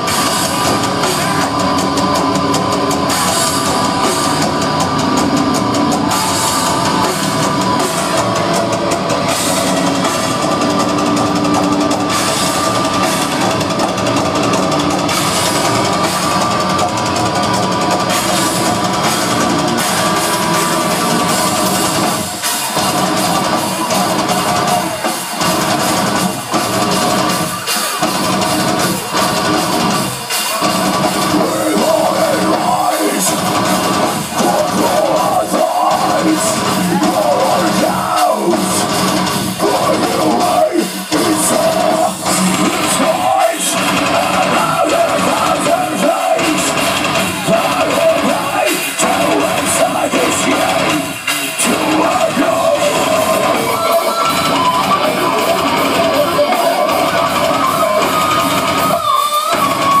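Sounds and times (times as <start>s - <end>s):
drum kit: 0.0s - 60.0s
electric guitars: 0.0s - 60.0s.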